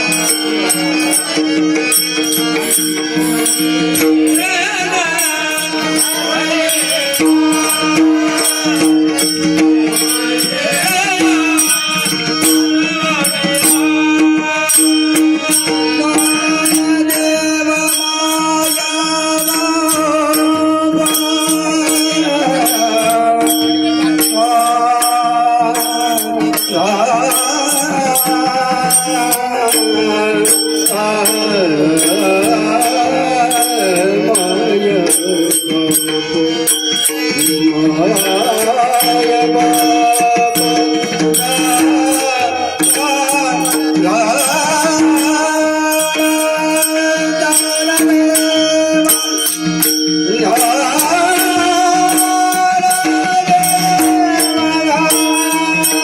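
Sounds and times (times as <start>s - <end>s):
elderly man singing: 0.0s - 56.0s
jingling metal percussion: 0.0s - 56.0s.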